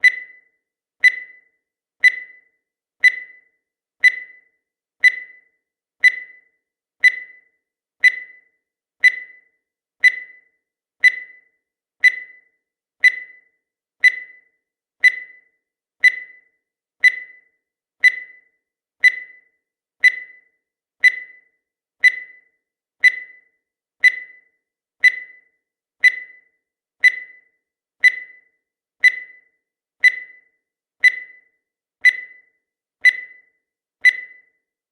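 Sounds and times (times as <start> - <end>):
short high-pitched beeps: 0.0 - 34.6.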